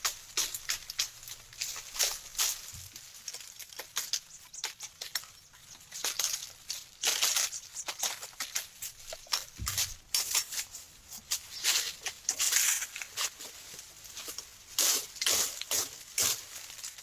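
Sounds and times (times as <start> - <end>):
dry brush crunching and rustling: 0.0 - 17.0.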